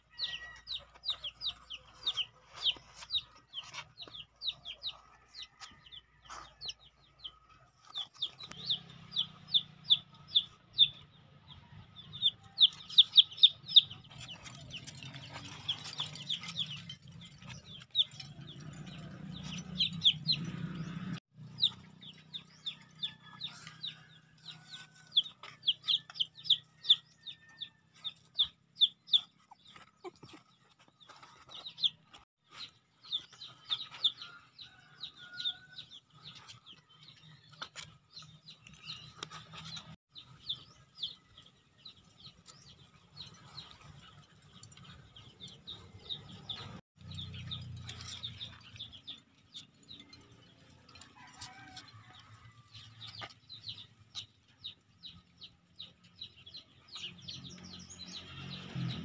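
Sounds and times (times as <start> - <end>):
bird chirping: 0.0 - 52.1, 52.7 - 59.0.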